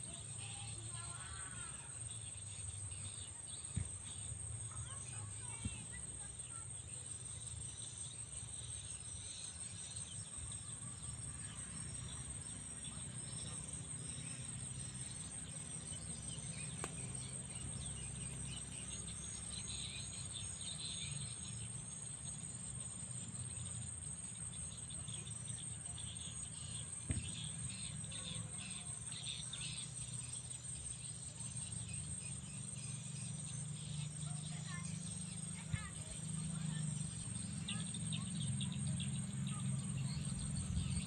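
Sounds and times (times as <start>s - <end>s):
faint chirps: 0.0s - 41.0s
insects trilling: 0.0s - 41.0s.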